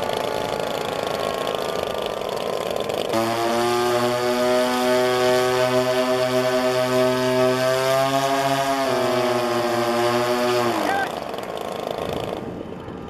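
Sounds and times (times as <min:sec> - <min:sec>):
model plane engines running: 0:00.0 - 0:13.0.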